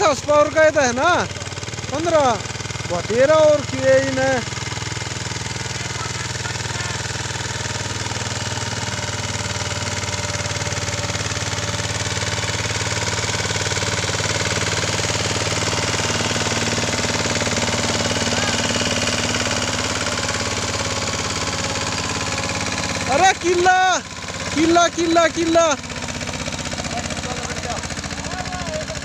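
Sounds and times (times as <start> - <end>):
tractor diesel engine thudding: 0.0 - 29.0.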